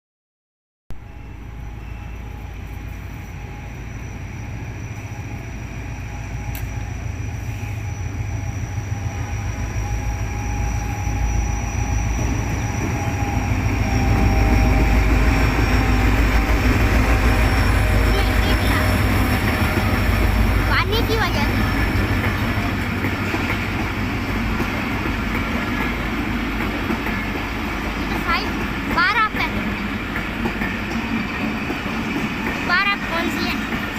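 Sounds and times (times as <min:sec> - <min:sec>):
high whine: 0:00.9 - 0:30.0
train rumbling on rails: 0:00.9 - 0:33.9.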